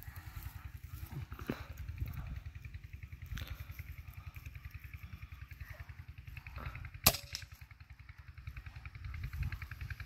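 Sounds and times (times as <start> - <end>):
low pulsing throb: 0.0 - 10.0.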